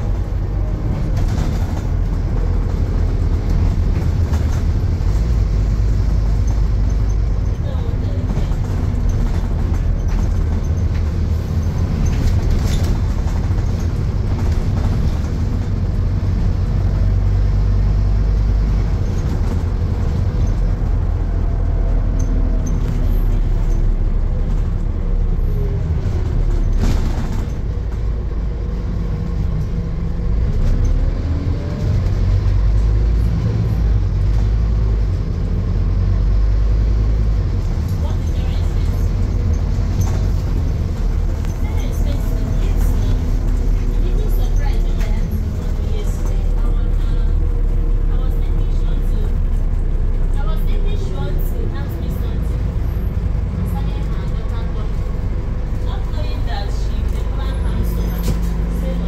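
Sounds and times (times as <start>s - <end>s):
bus diesel engine rumble: 0.0s - 59.0s.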